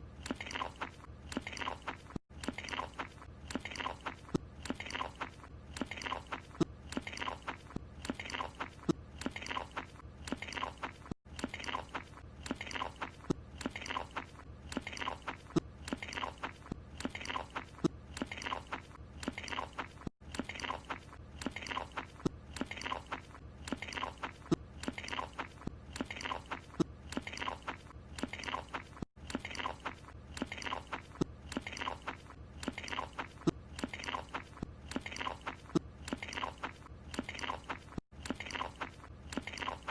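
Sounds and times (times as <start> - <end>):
wet crunchy chewing: 0.0 - 39.9.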